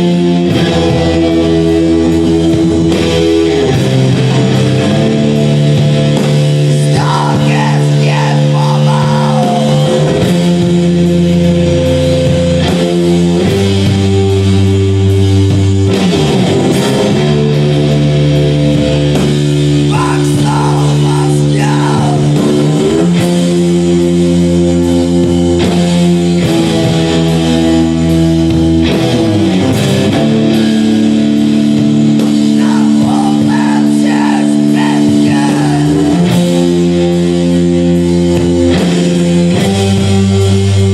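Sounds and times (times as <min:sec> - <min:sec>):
live rock music: 0:00.0 - 0:40.9.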